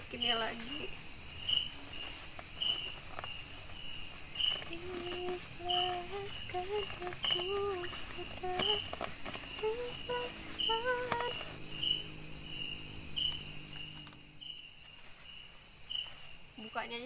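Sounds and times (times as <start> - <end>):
insect chirping: 0.0 - 17.0
insect high-pitched drone: 0.0 - 17.0.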